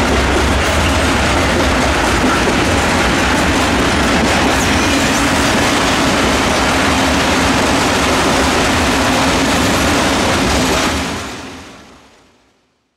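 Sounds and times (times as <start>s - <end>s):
train wheels rumbling on rails: 0.0s - 12.1s.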